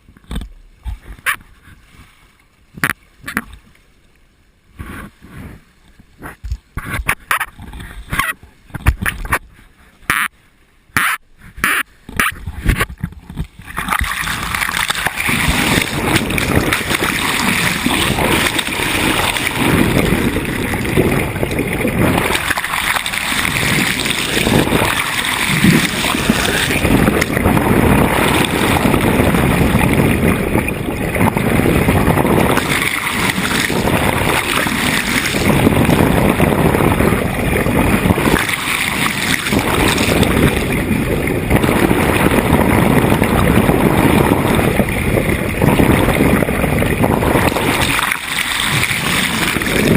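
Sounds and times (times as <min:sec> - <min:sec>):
water rushing along boat hull: 0:00.0 - 0:49.9.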